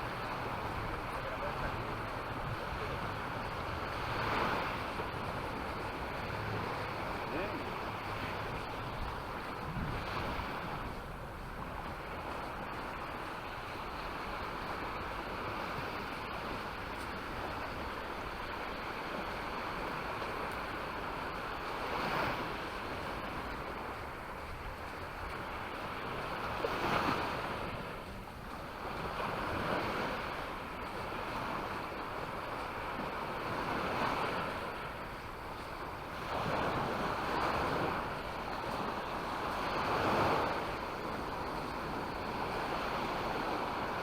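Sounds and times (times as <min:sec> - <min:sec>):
small waves breaking on beach: 0:00.0 - 0:44.0
wind noise on microphone: 0:00.0 - 0:44.0.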